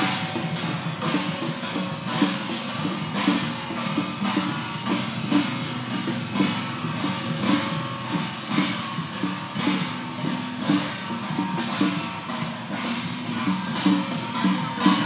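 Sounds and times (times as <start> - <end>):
drums gongs and cymbals: 0.0 - 15.0.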